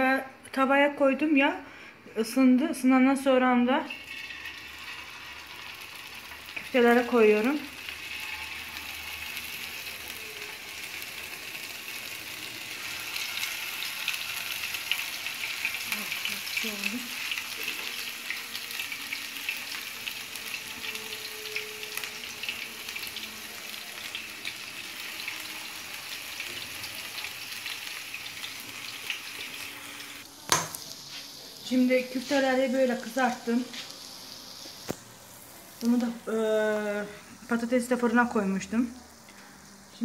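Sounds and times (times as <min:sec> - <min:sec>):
meatballs sizzling in oil: 0:03.4 - 0:40.0.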